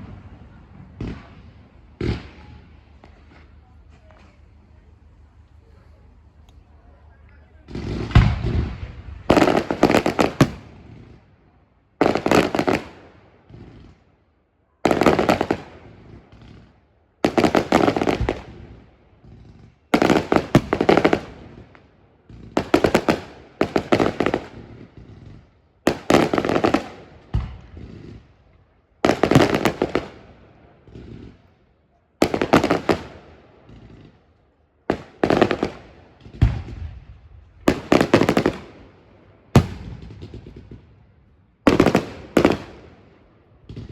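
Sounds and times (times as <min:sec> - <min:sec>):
firework bangs and crackles: 0:00.0 - 0:14.2, 0:14.8 - 0:43.9.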